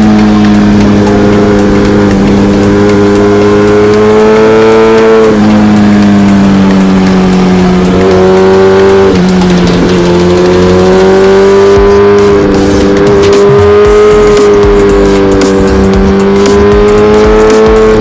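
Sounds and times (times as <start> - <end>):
motorcycle engine under load: 0.0 - 18.0.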